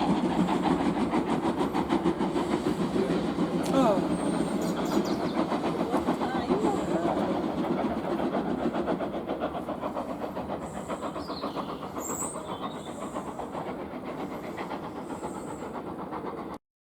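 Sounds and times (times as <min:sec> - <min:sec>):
steam locomotive chuffing: 0:00.0 - 0:16.6.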